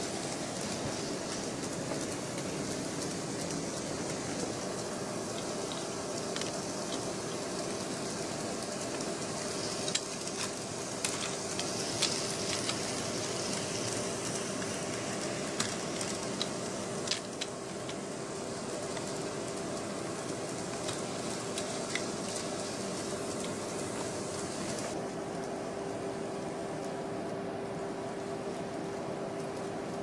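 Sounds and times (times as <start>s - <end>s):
steady hiss with faint hum: 0.0s - 30.0s.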